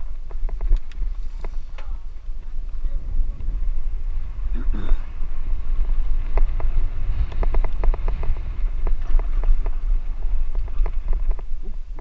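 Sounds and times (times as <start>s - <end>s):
bicycle clicks and rattles: 0.0s - 3.4s, 5.2s - 12.0s
wind rumbling on microphone: 0.0s - 12.0s.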